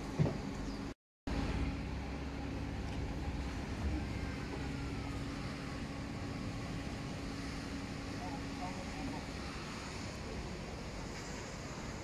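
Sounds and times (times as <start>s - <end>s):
low mechanical hum: 0.0s - 12.0s
low rumble: 1.3s - 12.0s.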